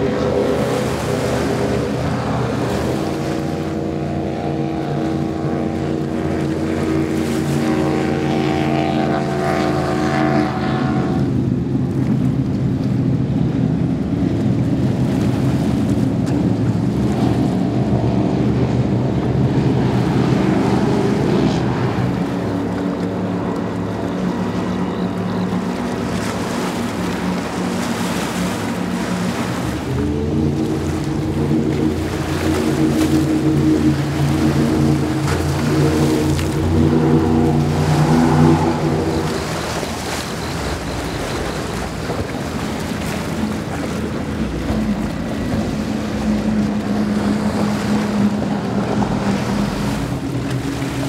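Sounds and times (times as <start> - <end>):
powerboat engines passing: 0.0 - 51.0
water rushing off hulls: 0.0 - 51.0.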